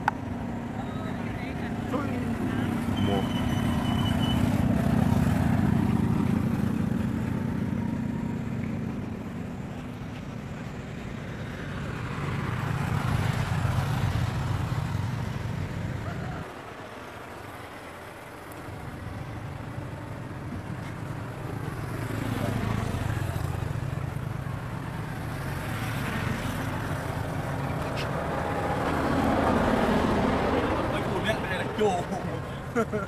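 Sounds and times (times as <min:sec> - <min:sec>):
vehicle engine rumbling: 0:00.0 - 0:33.0
vehicle passing: 0:00.0 - 0:33.0.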